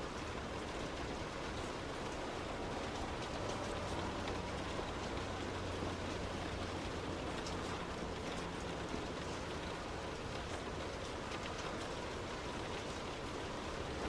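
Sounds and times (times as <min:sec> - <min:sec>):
heavy rain on a car: 0:00.0 - 0:14.0
raindrops tapping on car body: 0:00.0 - 0:14.0
wet road noise: 0:00.0 - 0:14.0.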